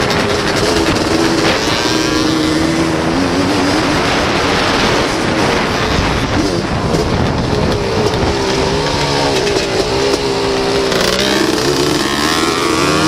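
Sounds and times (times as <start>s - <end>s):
rushing wind noise: 0.0s - 13.0s
three-wheeler engine running hard: 0.0s - 13.0s.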